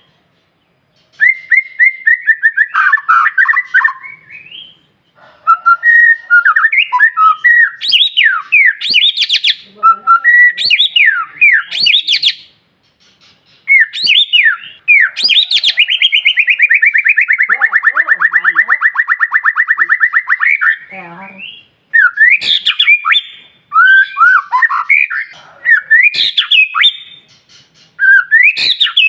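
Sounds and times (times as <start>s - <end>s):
bird singing whistled phrases: 1.2s - 4.8s, 5.5s - 12.5s, 13.6s - 27.2s, 28.0s - 29.0s
bird trilling: 1.2s - 29.0s.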